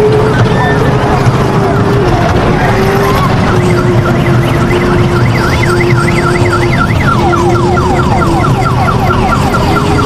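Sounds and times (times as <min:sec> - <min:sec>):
electronic siren wail: 0:00.0 - 0:10.0.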